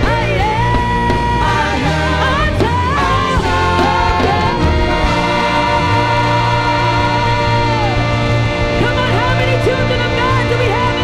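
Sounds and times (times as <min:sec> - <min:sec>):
band accompaniment: 0:00.0 - 0:11.0
women's group singing gospel: 0:00.0 - 0:11.0.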